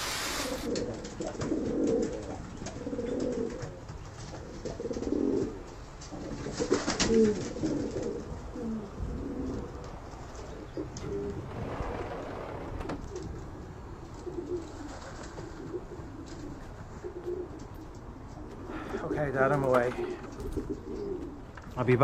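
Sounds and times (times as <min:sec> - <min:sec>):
pigeons cooing: 0:00.0 - 0:21.7.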